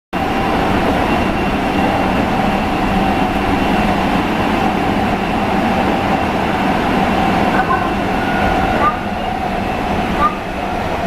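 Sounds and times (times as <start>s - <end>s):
subway car rumble: 0.1s - 11.0s
constant whine: 0.2s - 11.0s.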